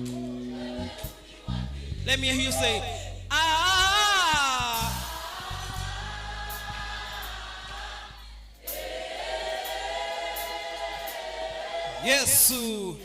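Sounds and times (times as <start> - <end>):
congregation and choir singing: 0.0 - 3.0, 3.8 - 13.0
musical accompaniment: 0.0 - 11.8.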